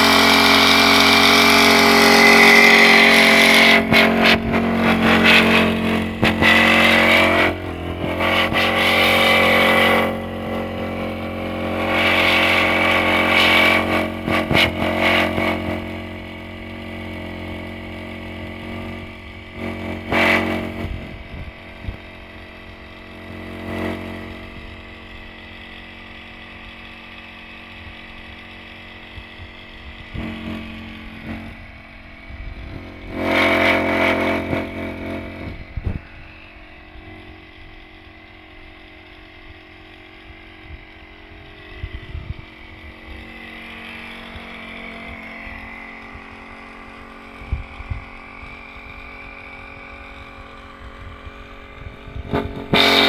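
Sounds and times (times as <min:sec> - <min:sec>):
small two-stroke engine running: 0:00.0 - 0:53.0.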